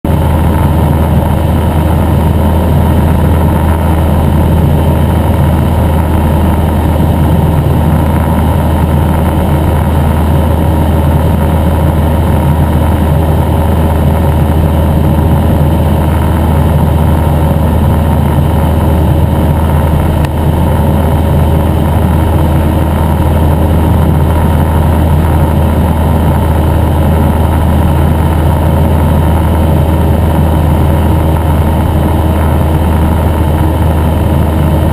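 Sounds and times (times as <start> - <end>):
light aircraft engine drone: 0.0 - 34.9.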